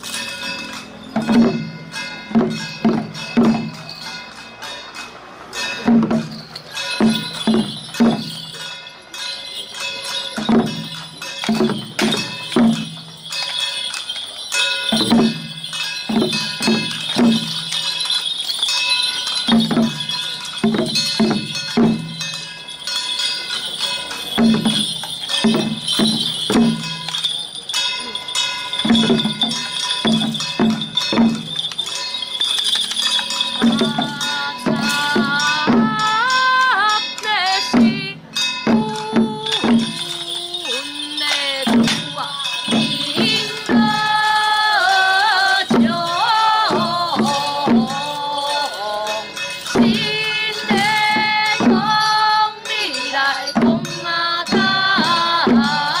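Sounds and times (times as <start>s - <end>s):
ringing metal percussion: 0.0s - 56.0s.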